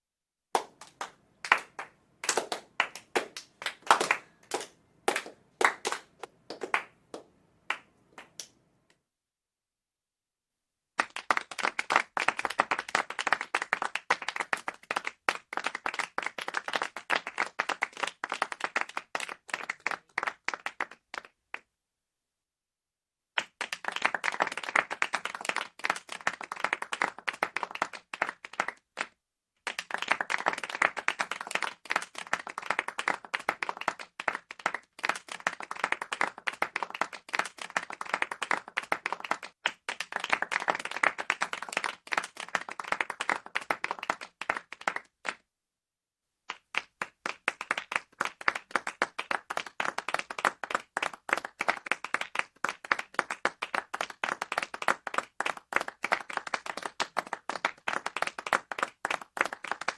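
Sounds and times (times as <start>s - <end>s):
small crowd applauding: 0.5s - 9.0s, 11.0s - 21.7s, 23.4s - 45.5s, 46.5s - 59.9s.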